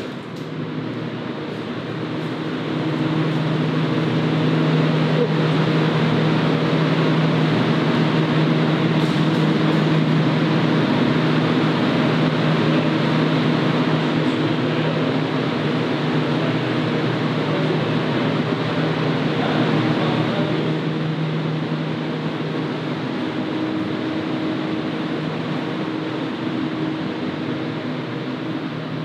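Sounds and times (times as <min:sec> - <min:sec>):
refrigeration unit hum: 0:00.0 - 0:29.0
rushing air fan: 0:00.0 - 0:29.0.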